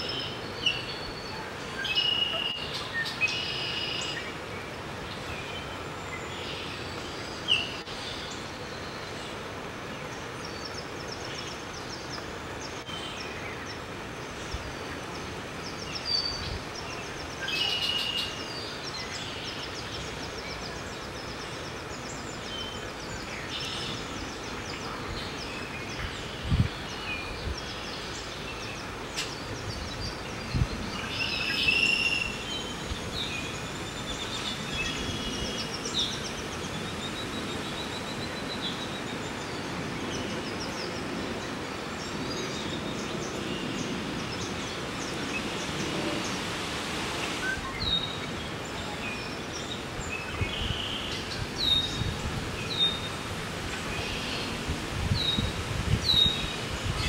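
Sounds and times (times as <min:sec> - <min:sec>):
open-air background hiss: 0:00.0 - 0:57.0.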